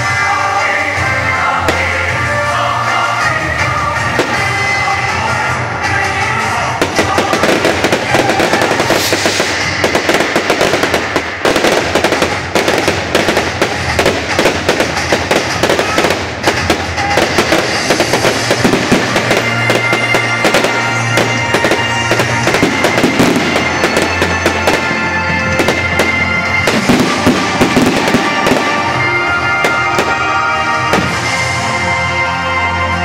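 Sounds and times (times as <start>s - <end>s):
music playing: 0.0s - 33.0s
fireworks crackling and popping: 1.5s - 5.4s, 6.6s - 31.8s.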